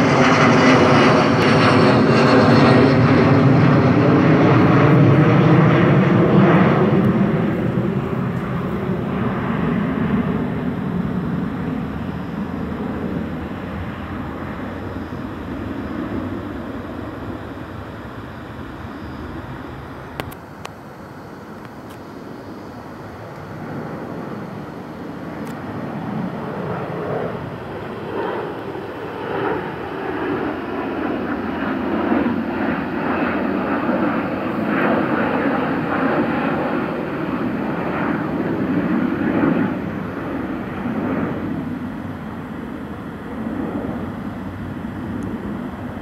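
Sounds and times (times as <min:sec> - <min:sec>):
jet engine roar: 0:00.0 - 0:46.0.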